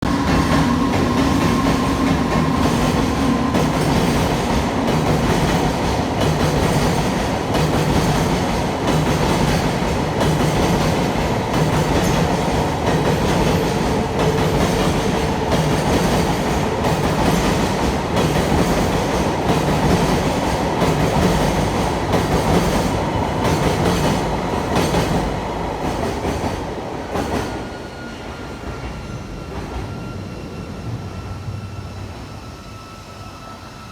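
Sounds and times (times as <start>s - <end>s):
freight train rumbling: 0.0s - 33.9s.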